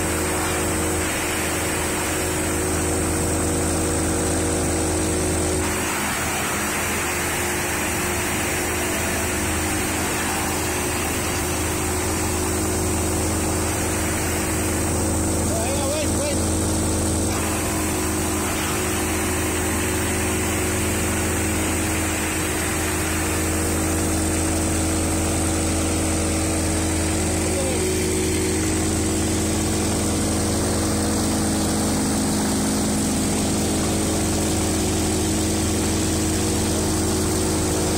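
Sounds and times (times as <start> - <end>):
wood chipper running: 0.0 - 37.9.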